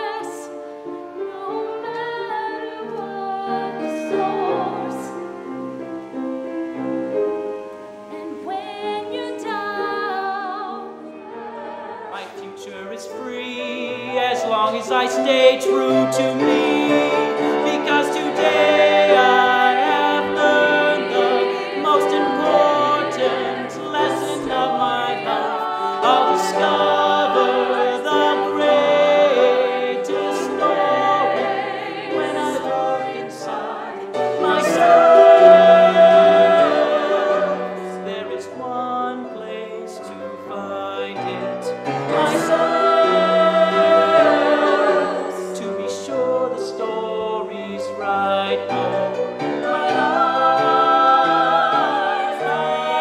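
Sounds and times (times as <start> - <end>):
people singing: 0.0 - 5.4, 8.1 - 53.0.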